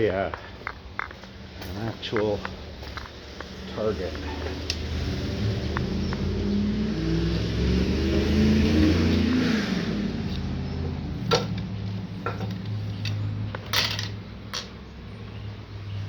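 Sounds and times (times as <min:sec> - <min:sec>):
motor vehicle engine: 0:00.0 - 0:16.0.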